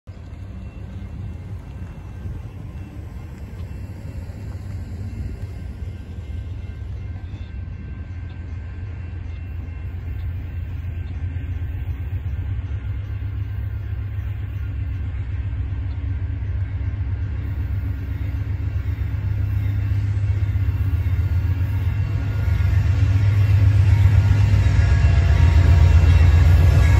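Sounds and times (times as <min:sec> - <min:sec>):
diesel locomotive engine rumble: 0:00.0 - 0:26.9.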